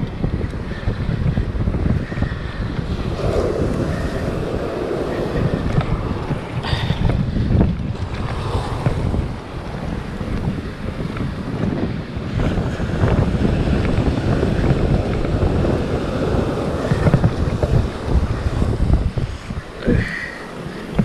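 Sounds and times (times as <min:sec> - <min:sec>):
surf breaking on rocky shore: 0:00.0 - 0:21.0
wind buffeting microphone: 0:00.0 - 0:21.0.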